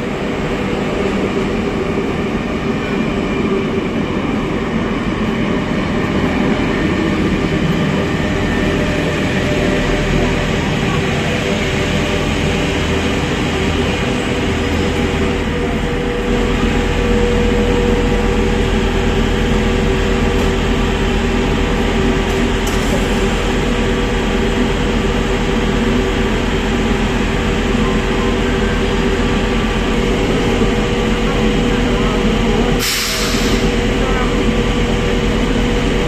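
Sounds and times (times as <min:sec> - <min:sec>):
train machine hum with tones: 0:00.0 - 0:36.0.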